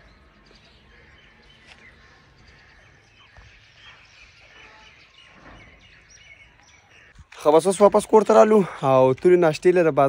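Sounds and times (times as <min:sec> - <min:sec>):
faint birds chirping: 0:00.0 - 0:10.0
low outdoor background noise: 0:00.0 - 0:10.0.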